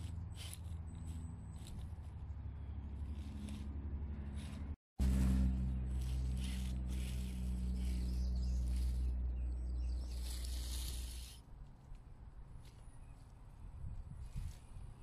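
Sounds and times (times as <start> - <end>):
tyres crunching over ground: 0.0 - 15.0.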